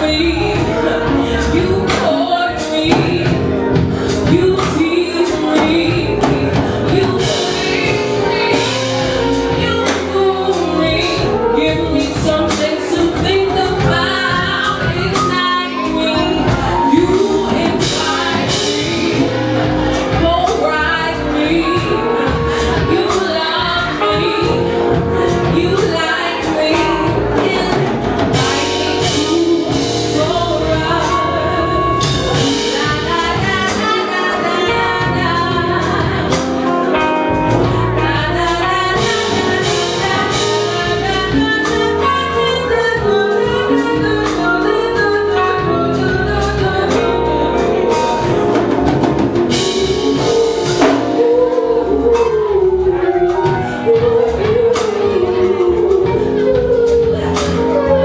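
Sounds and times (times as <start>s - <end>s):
drums: 0.0s - 58.0s
electric bass: 0.0s - 58.0s
woman singing into a microphone: 0.0s - 58.0s.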